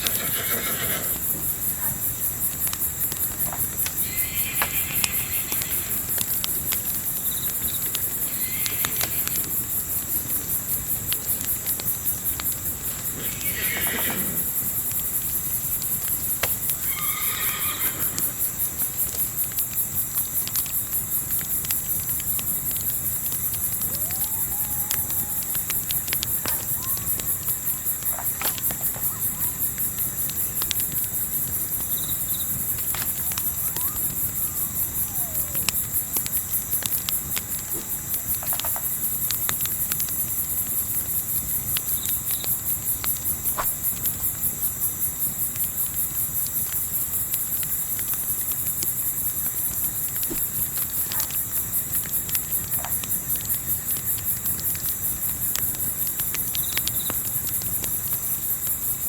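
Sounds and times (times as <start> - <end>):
campfire crackling: 0.0 - 59.0
crickets chirping: 0.0 - 59.0
low steady hiss: 0.0 - 59.0.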